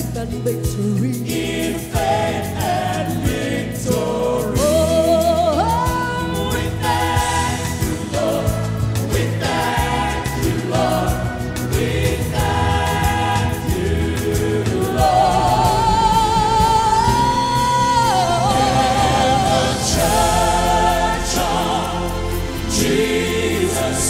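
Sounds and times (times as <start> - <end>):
gospel group singing: 0.0 - 24.0
instrumental backing: 0.0 - 24.0.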